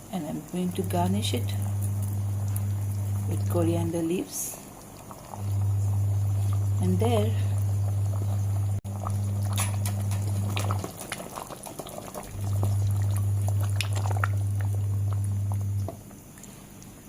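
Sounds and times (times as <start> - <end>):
low electrical hum: 0.0 - 17.0
gravy simmering with pops: 0.5 - 17.0.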